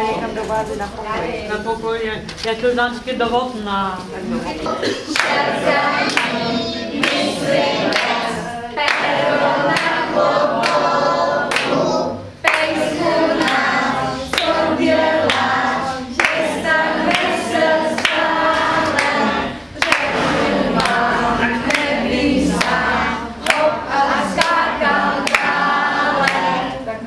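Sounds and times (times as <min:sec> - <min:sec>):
children singing: 0:04.6 - 0:27.0.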